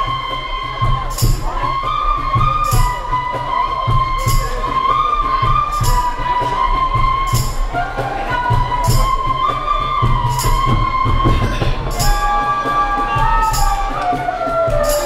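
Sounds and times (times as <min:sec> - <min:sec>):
bamboo flutes playing melody: 0:00.0 - 0:15.0
steady low beat: 0:00.0 - 0:15.0.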